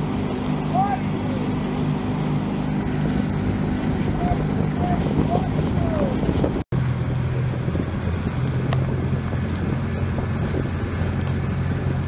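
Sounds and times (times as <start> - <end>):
boat motor humming: 0.0 - 12.0
wind buffeting microphone: 0.0 - 12.0.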